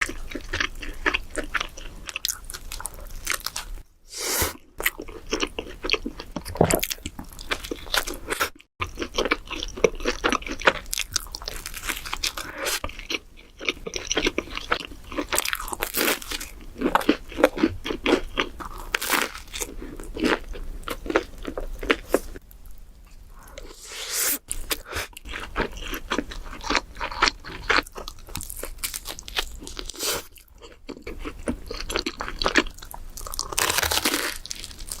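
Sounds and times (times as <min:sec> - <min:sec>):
people chewing pizza: 0:00.0 - 0:03.8, 0:04.4 - 0:22.4, 0:24.4 - 0:35.0.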